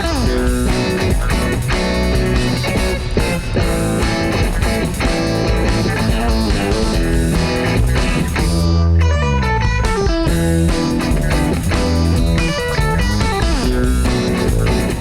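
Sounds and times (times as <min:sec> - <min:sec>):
funk band instrumental: 0:00.0 - 0:08.8, 0:09.5 - 0:15.0
descending bass run: 0:00.0 - 0:15.0.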